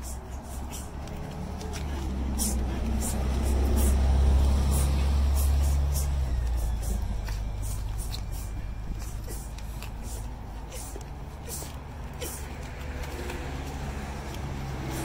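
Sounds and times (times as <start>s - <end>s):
bus engine rumble passing: 0.0s - 15.0s.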